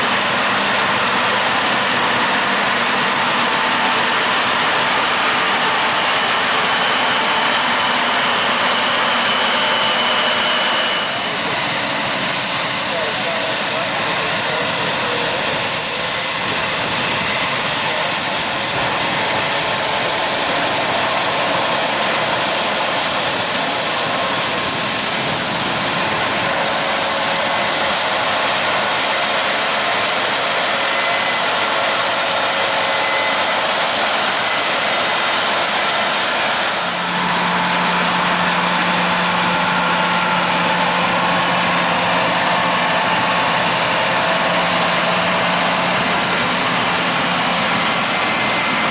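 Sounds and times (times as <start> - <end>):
farm machinery engines running: 0.0 - 48.9.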